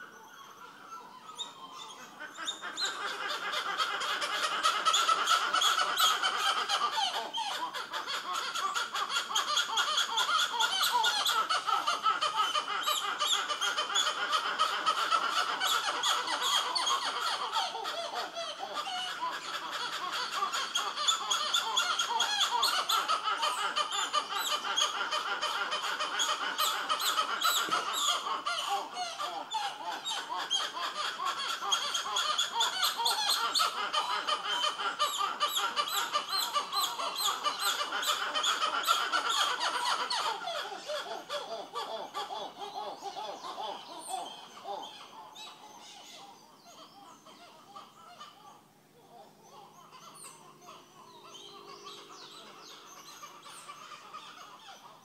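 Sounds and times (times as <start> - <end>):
monkeys calling: 0.0 - 55.0.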